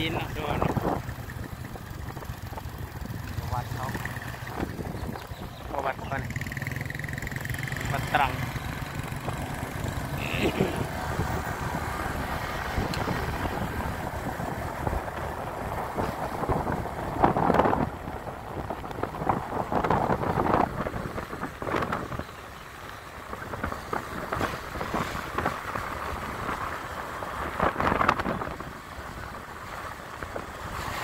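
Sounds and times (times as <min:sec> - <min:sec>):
scooter engine and road rumble: 0:00.0 - 0:31.0
wind rushing over microphone: 0:00.0 - 0:31.0.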